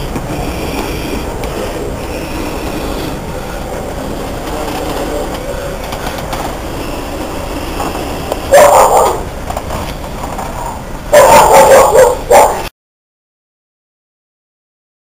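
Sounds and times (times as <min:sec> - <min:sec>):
heavy truck rumbling and rattling: 0:00.0 - 0:12.6.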